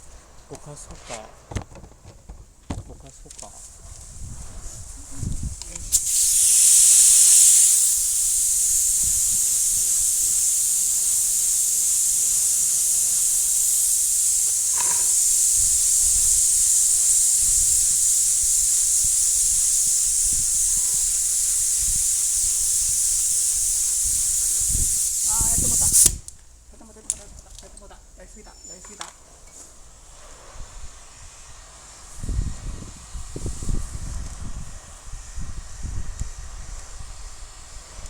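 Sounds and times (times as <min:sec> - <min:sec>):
spray gun hissing: 0:03.8 - 0:26.3, 0:29.5 - 0:38.0.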